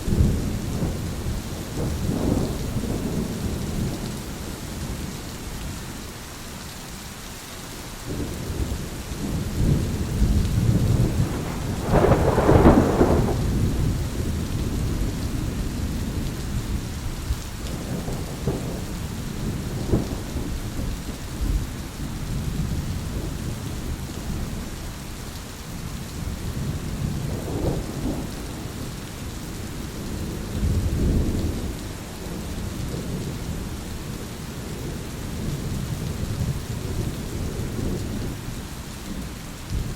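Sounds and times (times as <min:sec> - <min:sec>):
rolling thunder: 0:00.0 - 0:05.0, 0:08.1 - 0:24.6, 0:26.2 - 0:38.4
steady rain: 0:00.0 - 0:39.9.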